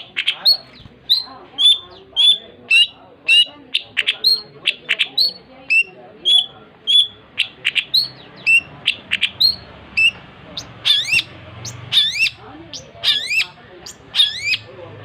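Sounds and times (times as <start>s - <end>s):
bird singing sharp chirps: 0.0s - 14.7s.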